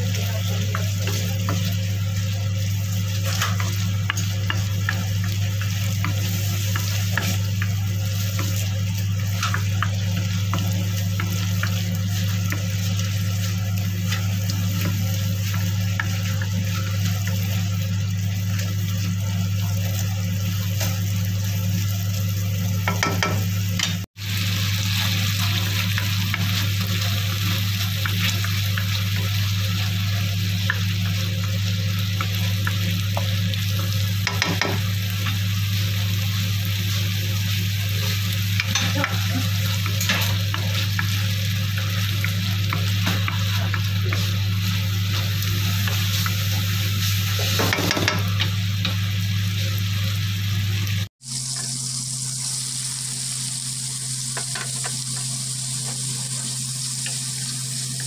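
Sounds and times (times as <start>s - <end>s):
tomatoes sizzling in hot oil: 0.0s - 58.0s.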